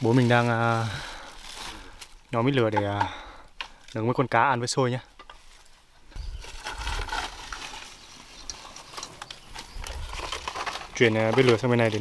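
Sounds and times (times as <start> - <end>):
rustling of plastic bag: 0.0 - 3.0, 3.8 - 12.0.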